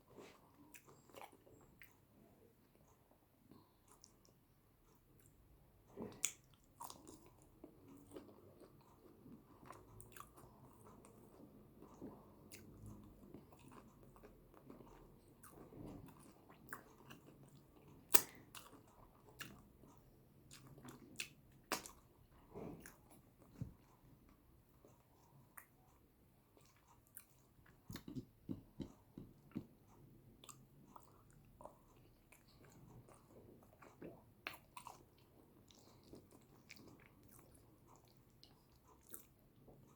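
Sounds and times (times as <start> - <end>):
close chewing and biting: 5.0 - 25.9, 26.5 - 39.9.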